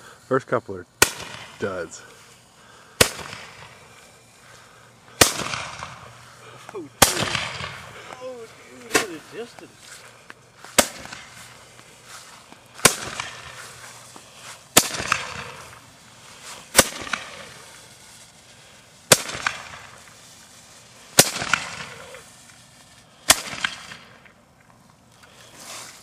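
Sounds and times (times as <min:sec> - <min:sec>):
brief firework hiss: 0:00.0 - 0:26.0.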